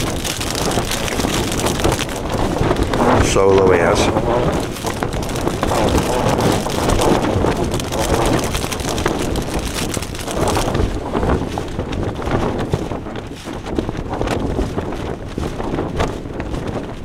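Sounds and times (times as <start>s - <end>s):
fabric flapping: 0.0s - 17.0s
wind buffeting microphone: 0.0s - 17.0s.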